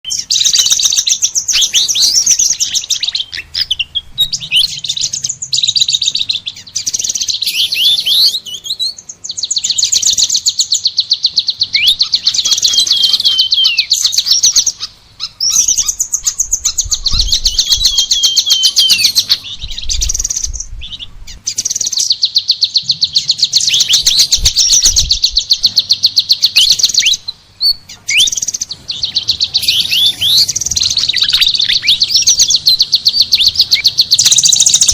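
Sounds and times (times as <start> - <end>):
songbird trilling song: 0.0 - 34.9.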